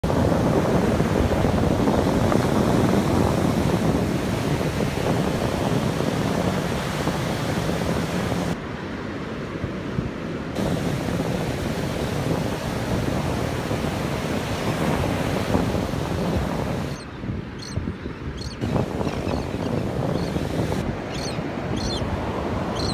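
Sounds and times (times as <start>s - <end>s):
ocean surf breaking: 0.0s - 17.0s, 18.7s - 22.9s
wind buffeting the microphone: 0.0s - 22.9s.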